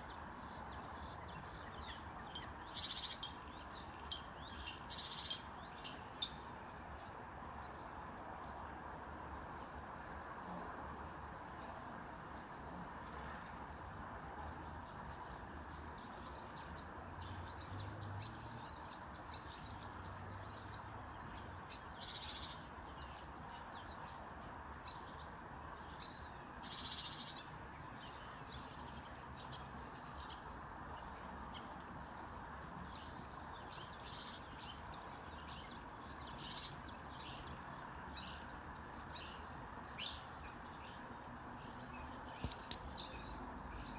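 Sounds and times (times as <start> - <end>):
small birds chirping: 0.0 - 8.7, 11.1 - 43.9.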